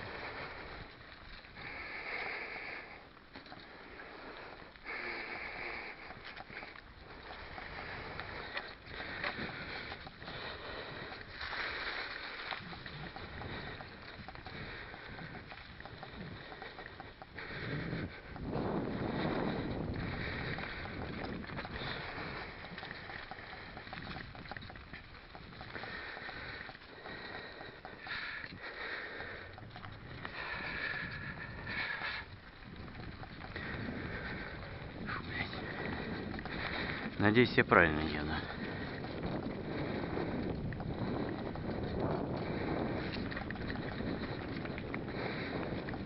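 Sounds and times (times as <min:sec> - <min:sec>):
bike rattling and clicking: 0:00.0 - 0:46.0
bike tyres on dirt trail: 0:00.0 - 0:46.0
cyclist breathing hard: 0:00.0 - 0:46.0
wind on microphone: 0:06.1 - 0:46.0.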